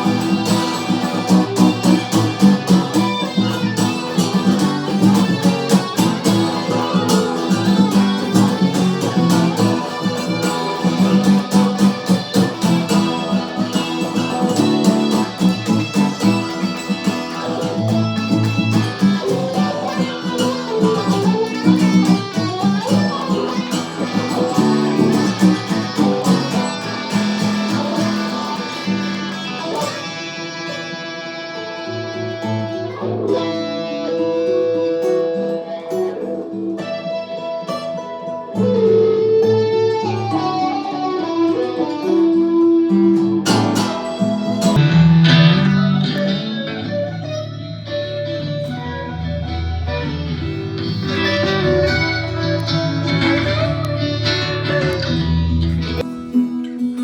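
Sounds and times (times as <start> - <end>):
guitar playing: 0.0 - 57.0.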